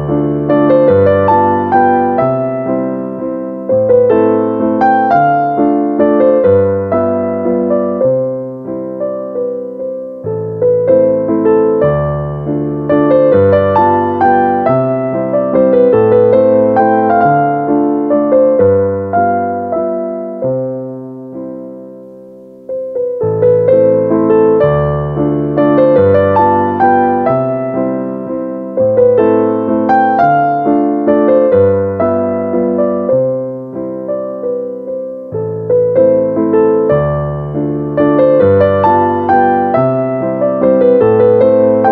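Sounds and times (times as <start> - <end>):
slow piano music: 0.0 - 41.9.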